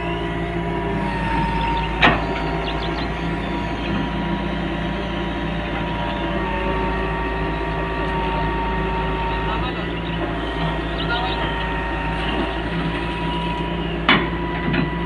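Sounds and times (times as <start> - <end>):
excavator diesel engine whining: 0.0 - 15.0.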